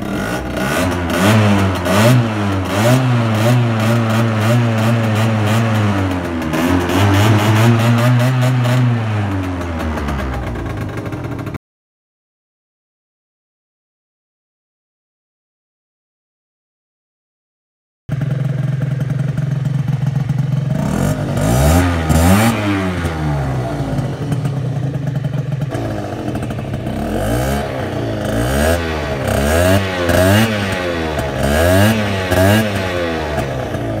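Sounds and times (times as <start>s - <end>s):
scooter engine revving: 0.0s - 11.6s, 18.1s - 34.0s.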